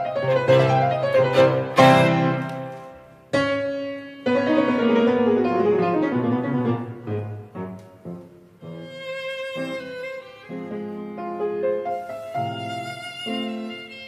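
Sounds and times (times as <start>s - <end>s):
slow violin and piano music: 0.0s - 14.0s.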